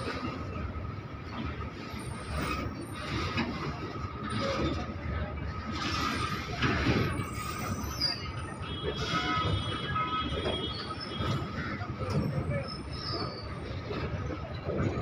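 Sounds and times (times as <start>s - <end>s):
freight wagon wheels rumbling: 0.0s - 15.0s.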